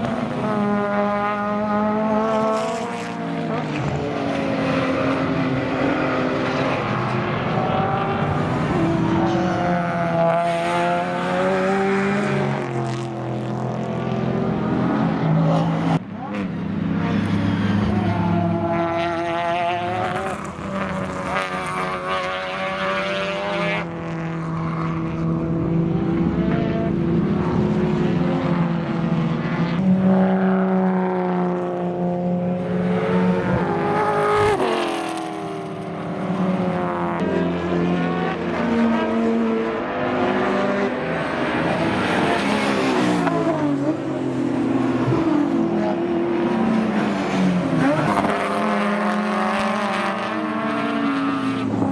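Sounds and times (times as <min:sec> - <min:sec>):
racing car engines passing: 0:00.0 - 0:51.9.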